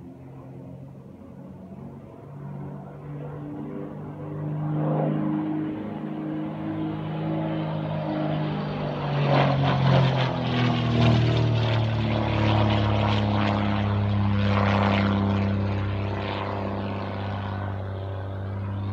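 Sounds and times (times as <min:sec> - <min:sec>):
propeller plane engine droning: 0:00.0 - 0:18.9.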